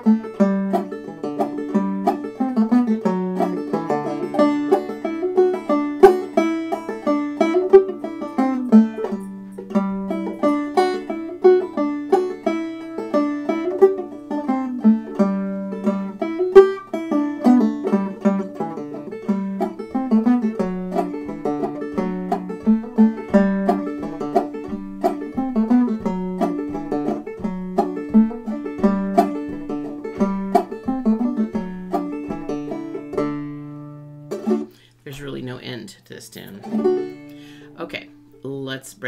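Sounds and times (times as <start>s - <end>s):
banjo playing old-time tune: 0.0s - 35.8s, 36.4s - 38.4s.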